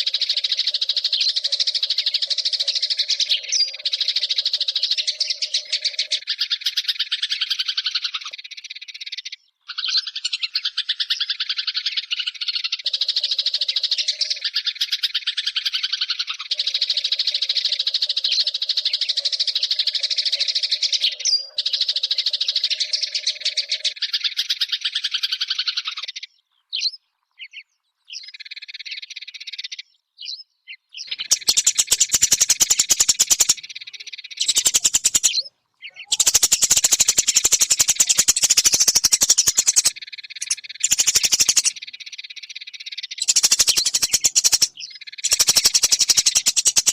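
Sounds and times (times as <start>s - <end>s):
sparrows chirping: 0.0s - 46.9s.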